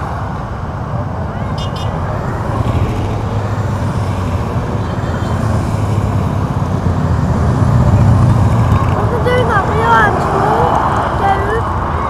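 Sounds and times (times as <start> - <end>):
motorcycles riding past: 1.2 - 12.0.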